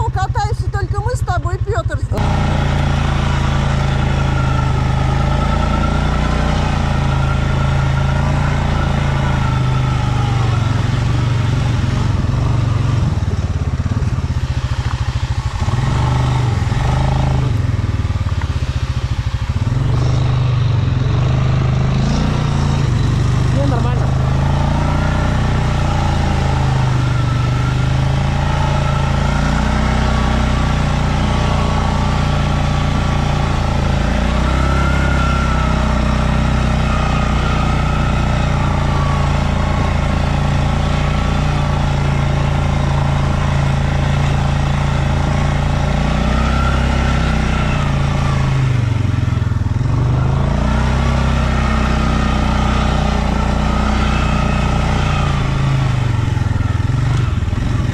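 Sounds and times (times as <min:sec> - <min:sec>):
atv engine revving under load: 0:00.0 - 0:57.9.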